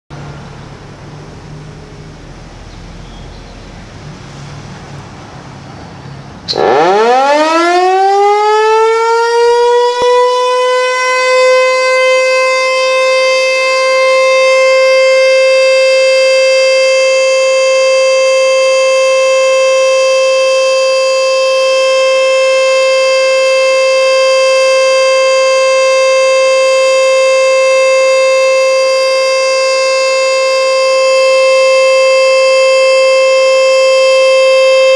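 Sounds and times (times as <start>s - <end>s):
warning siren winding up: 6.5s - 34.9s.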